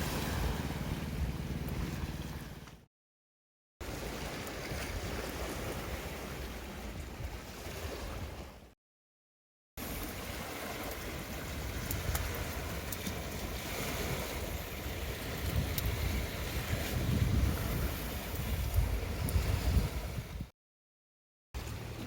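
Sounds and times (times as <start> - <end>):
wind buffeting microphone: 0.0 - 2.7, 3.8 - 8.6, 9.8 - 20.5.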